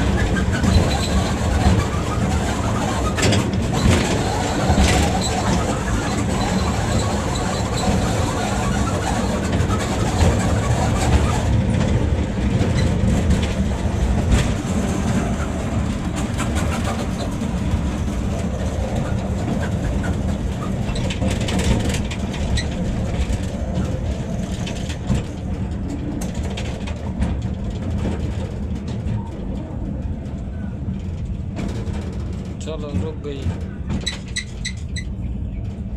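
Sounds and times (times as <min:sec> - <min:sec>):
toy train rumbling on track: 0:00.0 - 0:35.9.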